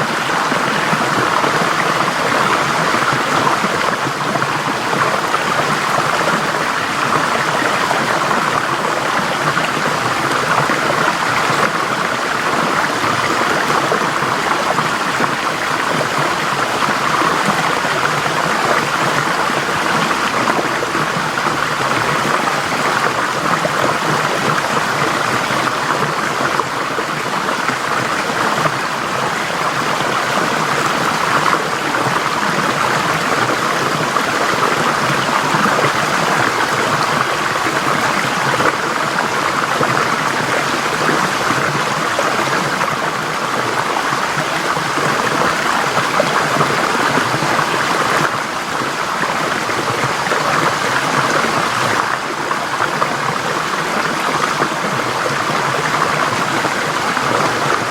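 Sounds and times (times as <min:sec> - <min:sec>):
stream flowing over rocks: 0:00.0 - 0:57.9.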